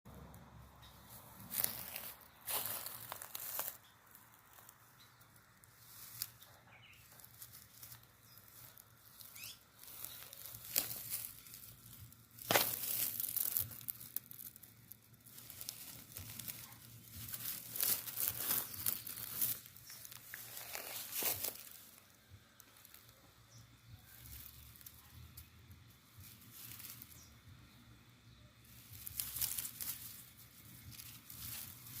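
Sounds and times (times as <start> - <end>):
rustling and crinkling: 0.1 - 32.0.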